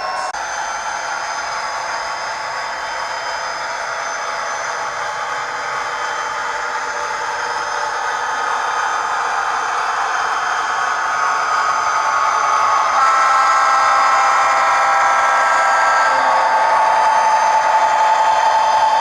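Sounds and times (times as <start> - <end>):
diesel engine sound from small speaker: 0.0 - 19.0.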